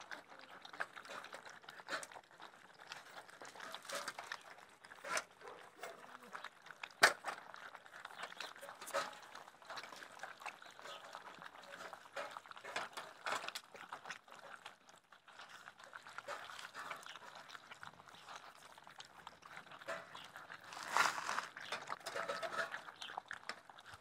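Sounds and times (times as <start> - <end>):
small clicks on metal bowls: 0.0 - 14.8, 15.8 - 20.6, 21.4 - 24.0
puppies chewing wet food: 0.0 - 24.0.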